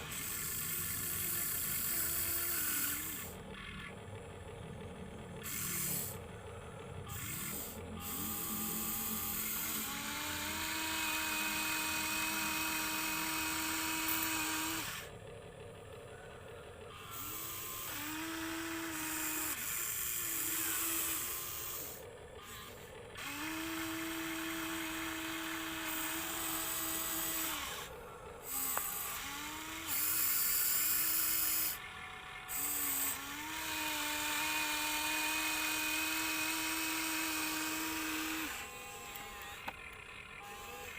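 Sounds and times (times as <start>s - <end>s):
toy electric motors whining: 0.0s - 40.9s.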